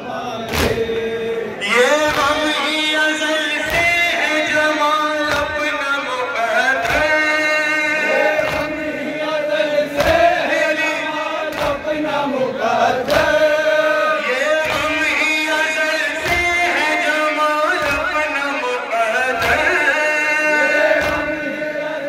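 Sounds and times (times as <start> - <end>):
man singing a lament through microphone: 0.0 - 22.0
men chanting along: 0.0 - 22.0.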